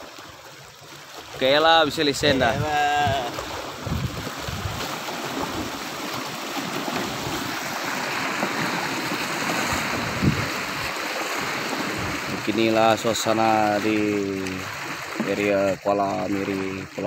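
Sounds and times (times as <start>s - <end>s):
waves washing against rocks: 1.2s - 17.0s.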